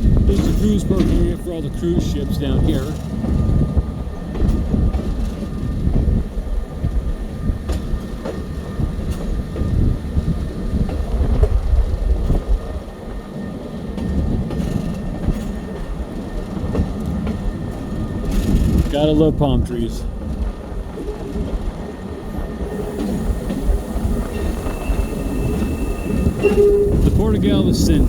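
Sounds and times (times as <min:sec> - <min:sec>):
train wheels rumbling: 0:00.0 - 0:19.3, 0:19.9 - 0:28.0
wheels clacking on rails: 0:00.0 - 0:28.0.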